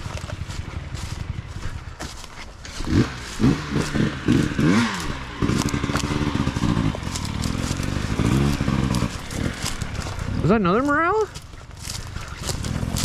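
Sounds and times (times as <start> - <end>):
crunching dry leaves: 0.0 - 13.0
dirt bike engine revving: 0.0 - 13.0.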